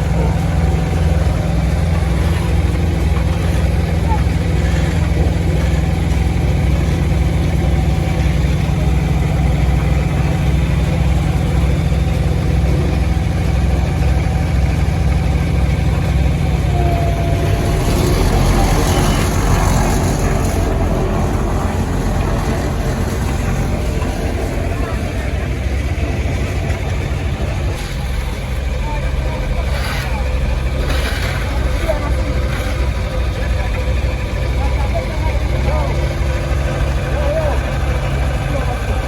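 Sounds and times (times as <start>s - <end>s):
heavy machinery engine droning: 0.0s - 39.0s.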